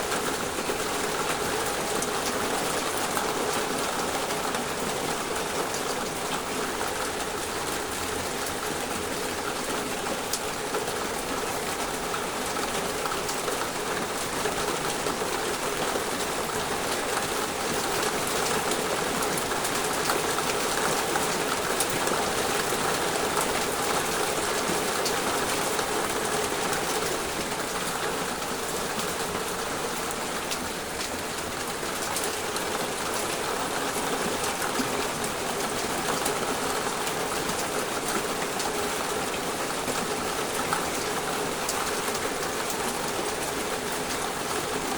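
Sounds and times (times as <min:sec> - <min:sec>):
torrential rain pouring: 0:00.0 - 0:44.9.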